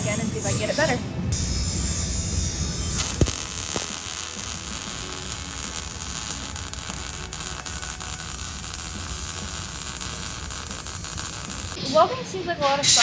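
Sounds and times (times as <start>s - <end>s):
welding arc crackling and hissing: 0.0s - 11.8s.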